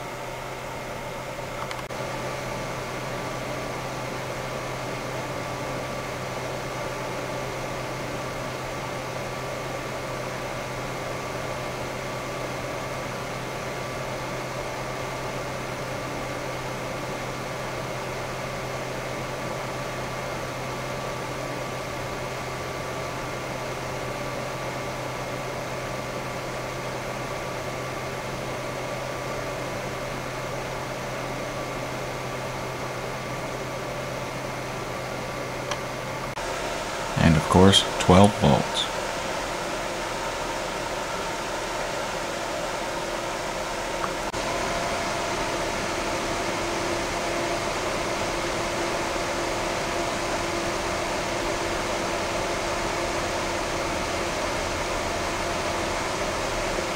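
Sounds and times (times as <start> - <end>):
computer fan running: 0.0 - 56.9.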